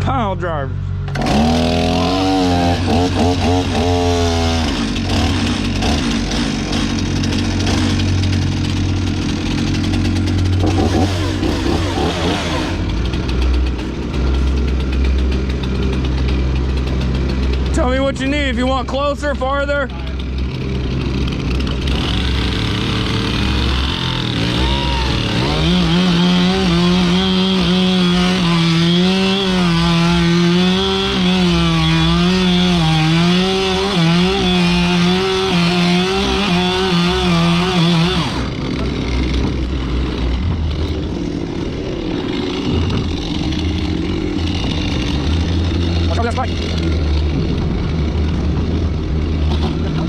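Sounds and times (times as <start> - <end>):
low engine drone: 0.0 - 50.0
chainsaw cutting timber: 1.1 - 50.0.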